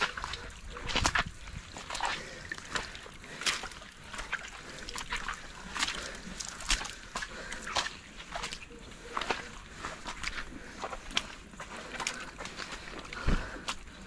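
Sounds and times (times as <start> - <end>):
footsteps squelching in mud: 0.0 - 14.0.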